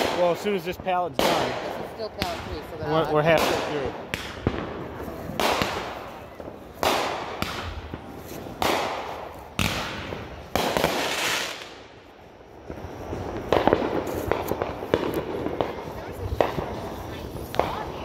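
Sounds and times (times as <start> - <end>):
crackling pops of fireworks: 0.0 - 18.0
fireworks bangs with hiss: 0.0 - 18.0.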